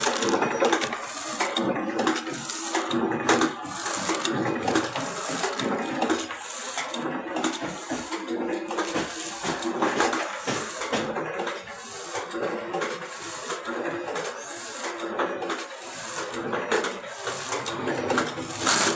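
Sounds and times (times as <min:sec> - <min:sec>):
packing machine hum: 0:00.0 - 0:18.9.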